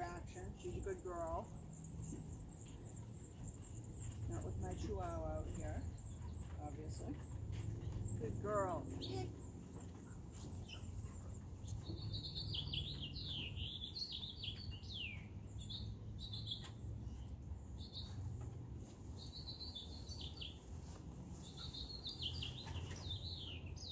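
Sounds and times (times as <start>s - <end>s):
songbird singing: 0.0s - 23.9s.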